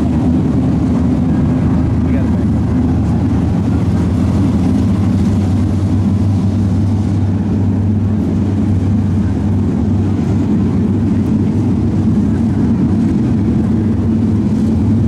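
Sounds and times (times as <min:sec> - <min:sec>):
stock car engines droning: 0:00.0 - 0:15.0.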